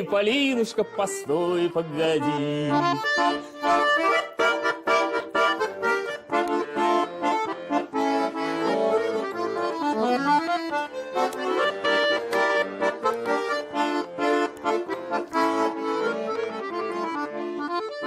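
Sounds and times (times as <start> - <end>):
accordion playing folk song: 0.0 - 18.0.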